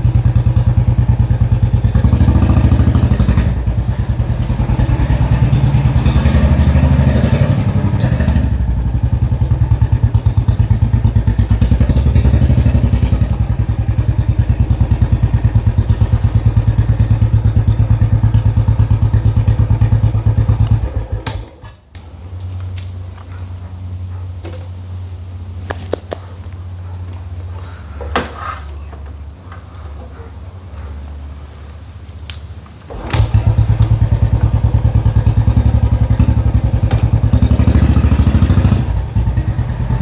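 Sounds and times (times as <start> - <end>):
motorcycle engine thumping: 0.2 - 27.3, 32.4 - 39.5.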